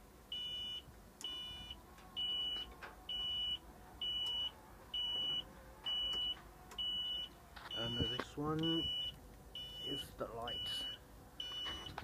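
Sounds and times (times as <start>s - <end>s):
warning buzzer beeping: 0.4s - 12.0s.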